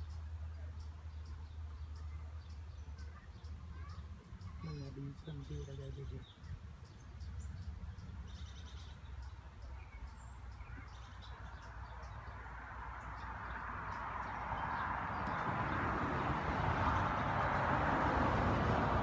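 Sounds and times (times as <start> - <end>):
vehicle approaching: 3.3 - 19.0.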